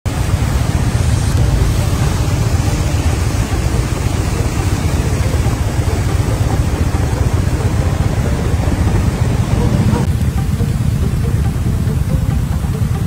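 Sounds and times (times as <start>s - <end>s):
motorcycle engine rumble: 0.0s - 13.0s
rushing water: 0.0s - 13.0s.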